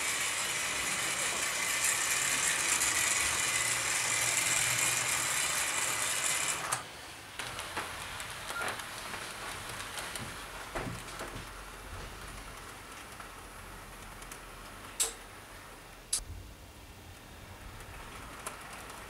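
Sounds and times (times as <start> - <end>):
model trains whirring and rattling: 0.0 - 16.0, 17.4 - 19.0.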